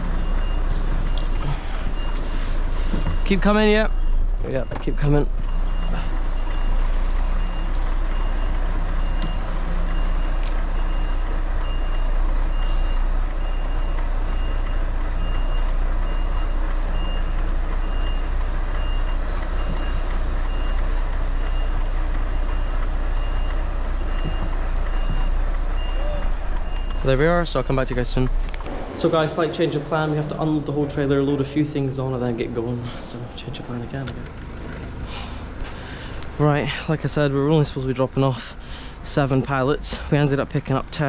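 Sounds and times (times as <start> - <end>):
reversing alarm beeping: 0.0 - 36.2
diesel engine rumble: 0.0 - 41.0.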